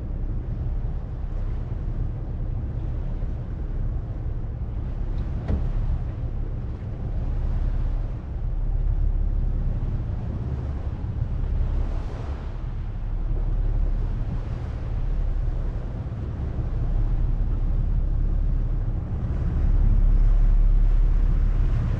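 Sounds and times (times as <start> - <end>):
boat engine rumbling: 0.0 - 21.9
wind buffeting microphone: 0.0 - 21.9.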